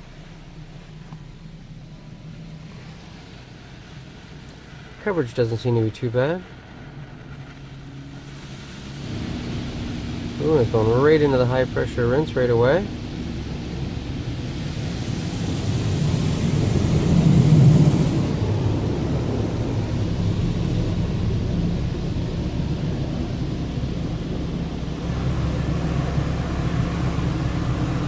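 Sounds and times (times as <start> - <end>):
low machinery hum: 0.0 - 28.0
water jets spraying a vehicle: 0.0 - 28.0.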